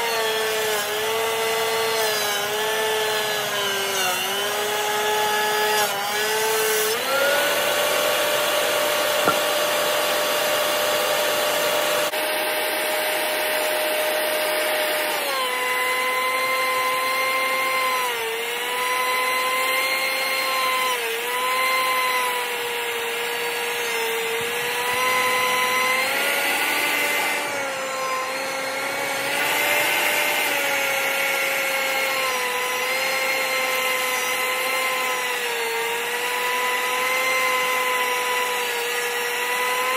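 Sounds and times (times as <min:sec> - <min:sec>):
thickness planer motor whine: 0:00.0 - 0:39.9.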